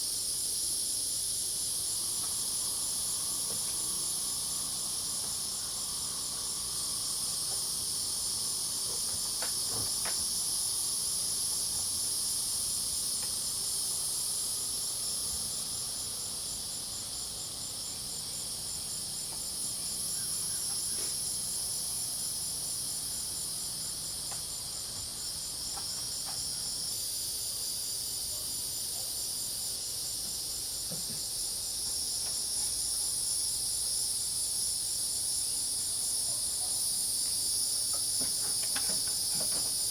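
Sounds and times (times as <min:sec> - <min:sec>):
crickets and cicadas chorus: 0:00.0 - 0:39.9
fast pulsing insect trill: 0:00.0 - 0:39.9.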